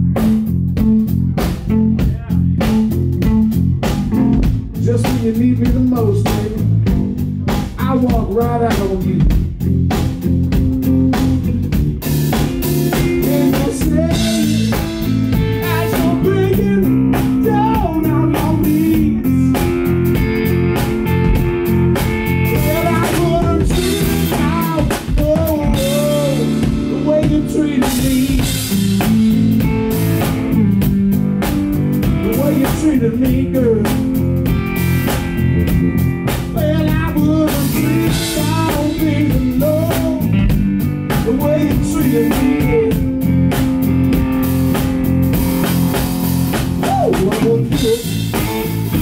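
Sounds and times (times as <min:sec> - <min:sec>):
blues band playing: 0:00.0 - 0:49.0
electric guitar lead: 0:00.0 - 0:49.0.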